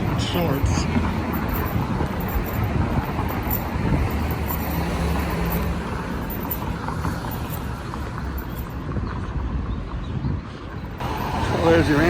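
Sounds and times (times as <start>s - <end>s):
vehicle engine hum: 0.0s - 8.9s, 10.6s - 12.0s
road noise: 0.0s - 12.0s.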